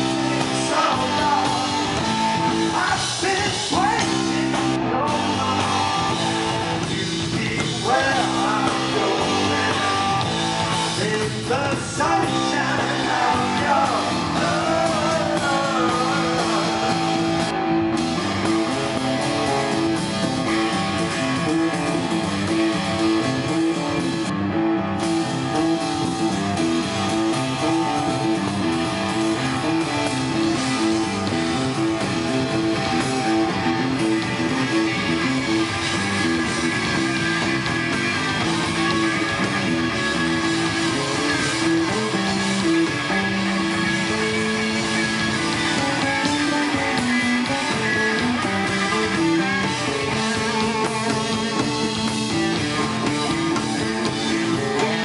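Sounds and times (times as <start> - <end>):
electric guitar lead line: 0.0 - 55.0
live rock band playing: 0.0 - 55.0.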